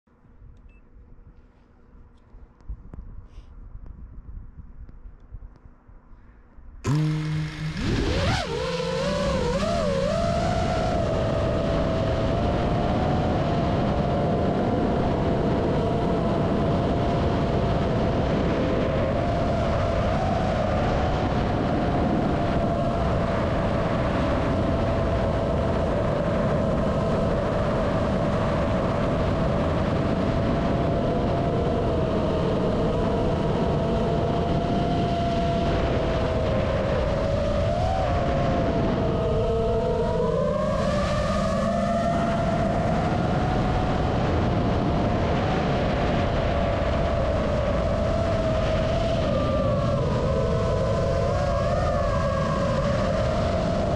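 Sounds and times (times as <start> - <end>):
drone motors whining: 6.9 - 53.9.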